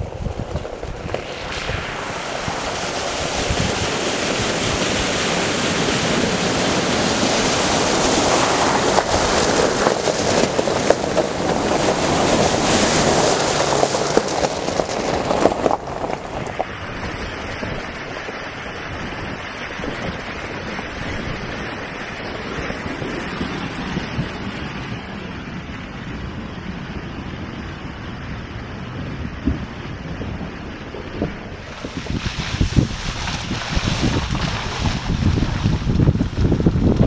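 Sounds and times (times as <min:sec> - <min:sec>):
wind on microphone: 0:00.0 - 0:37.0
tyres splashing through water: 0:01.2 - 0:25.7, 0:31.5 - 0:37.0.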